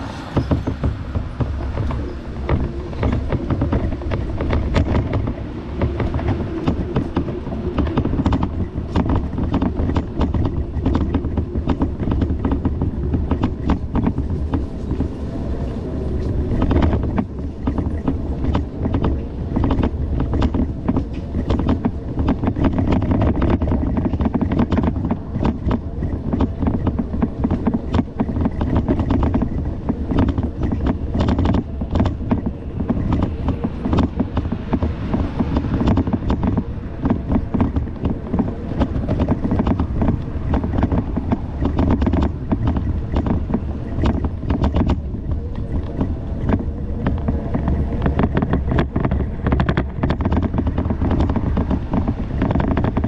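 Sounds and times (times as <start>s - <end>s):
bicycle rumbling over rough ground: 0.0s - 53.0s
wind buffeting microphone: 0.0s - 53.0s.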